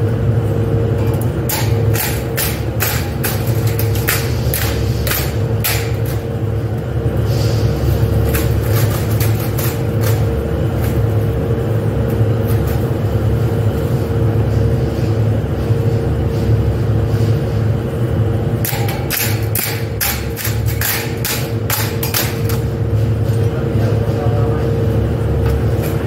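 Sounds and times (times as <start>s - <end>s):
factory machinery drone: 0.0s - 26.0s.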